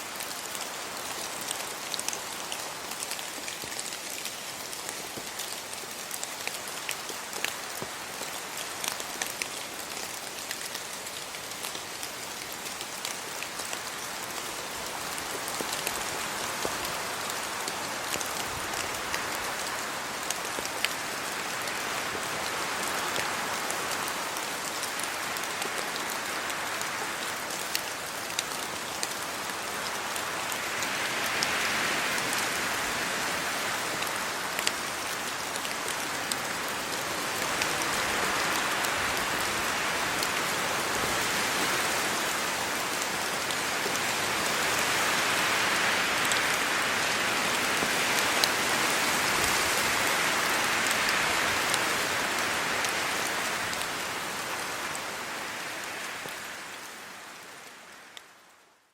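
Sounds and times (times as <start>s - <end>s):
steady rain on trees and road: 0.0s - 58.9s.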